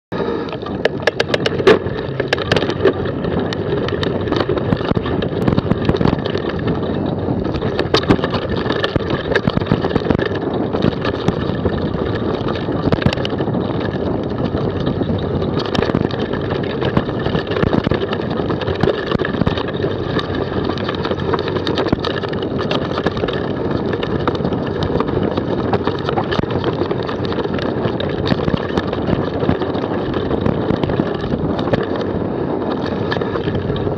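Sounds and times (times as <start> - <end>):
bike rattling: 0.2 - 33.9
wind rushing on microphone: 0.2 - 33.9.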